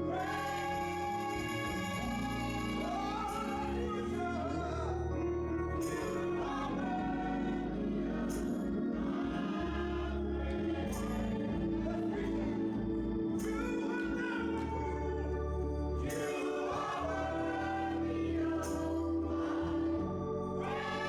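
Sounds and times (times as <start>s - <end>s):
choir singing gospel music: 0.0s - 21.0s
instrumental accompaniment: 0.0s - 21.0s.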